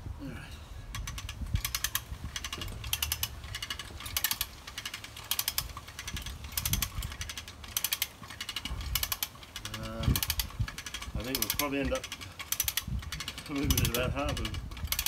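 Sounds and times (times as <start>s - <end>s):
winch ratchet clicking: 0.9s - 15.0s.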